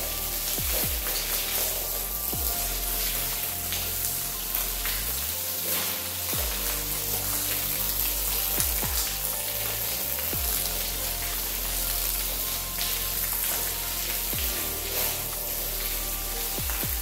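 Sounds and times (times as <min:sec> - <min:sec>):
music with low notes: 0:00.0 - 0:17.0
pressure washer spraying water: 0:00.0 - 0:17.0.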